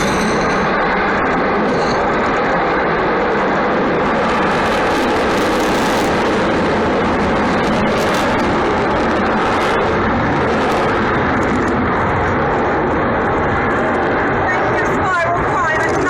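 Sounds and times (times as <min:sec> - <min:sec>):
jet bomber engines rumbling: 0:00.0 - 0:16.0.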